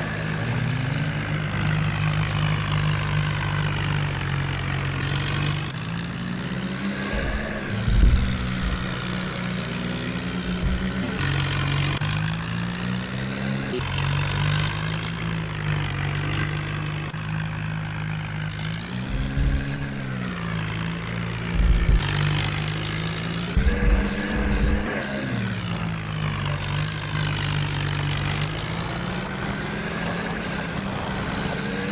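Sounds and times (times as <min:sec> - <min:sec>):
diesel tractor engine under load: 0:00.0 - 0:31.9.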